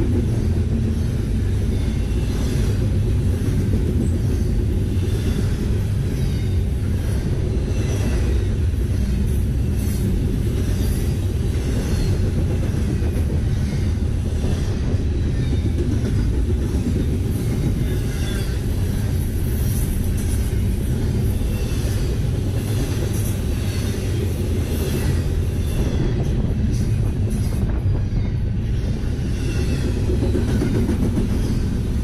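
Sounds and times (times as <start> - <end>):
steel wheels rumbling on rails: 0.0 - 32.0.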